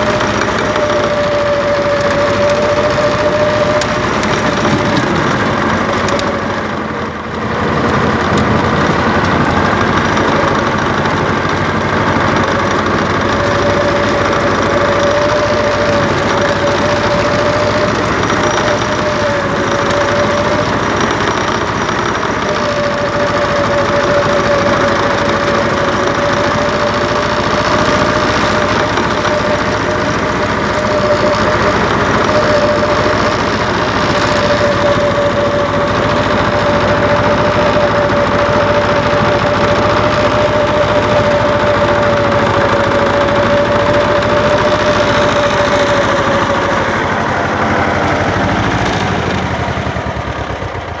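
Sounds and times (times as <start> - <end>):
steady whine: 0.0 - 51.0
tractor engine running: 0.0 - 51.0.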